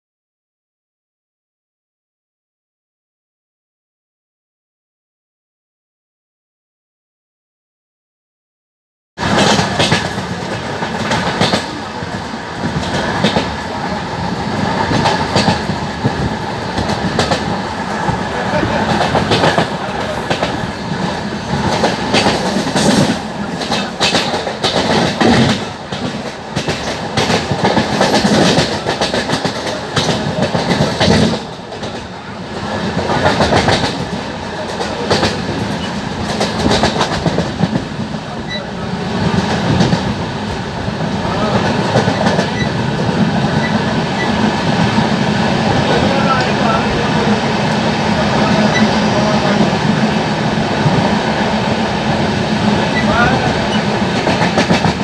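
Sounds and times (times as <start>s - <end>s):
rushing wind: 9.2s - 55.0s
train rumble: 9.2s - 55.0s.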